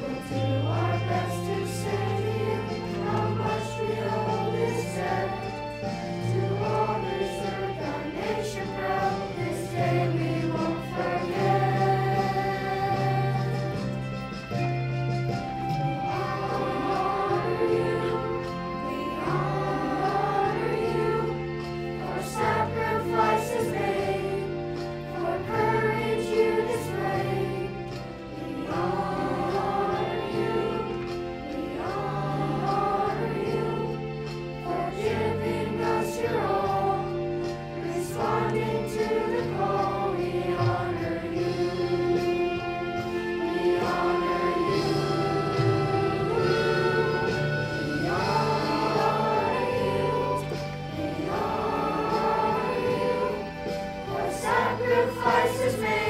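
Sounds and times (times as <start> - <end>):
choir singing slow piece: 0.0 - 56.0
low held accompaniment notes: 0.0 - 56.0.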